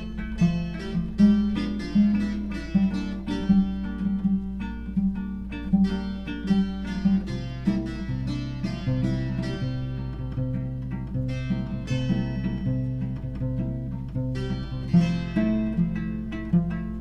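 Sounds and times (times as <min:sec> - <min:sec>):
acoustic guitar plucked rhythm: 0:00.0 - 0:17.0
steady low hum: 0:00.0 - 0:17.0.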